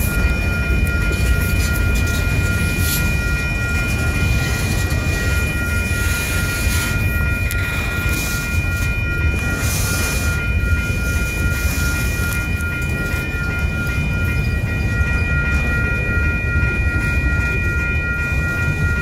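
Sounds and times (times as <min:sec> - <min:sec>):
crossing signal bell ringing: 0:00.0 - 0:19.0
train wheels rumbling on rails: 0:00.0 - 0:19.0.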